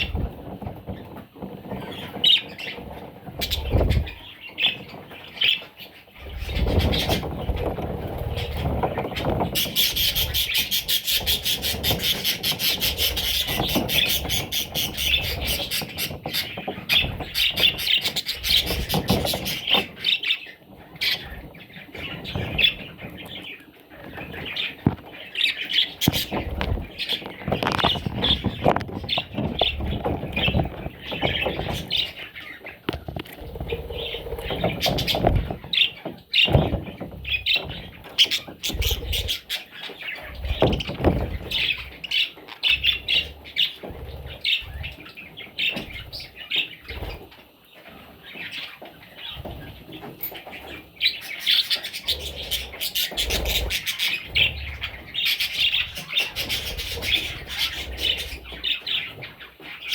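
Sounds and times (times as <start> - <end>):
parrot chicks chirping and squawking: 0.0 - 59.9
rustles: 0.0 - 59.9.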